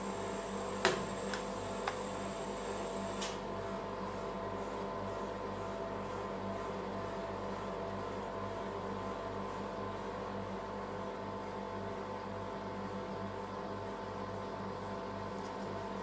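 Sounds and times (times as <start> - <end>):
refrigeration unit humming: 0.0 - 16.0.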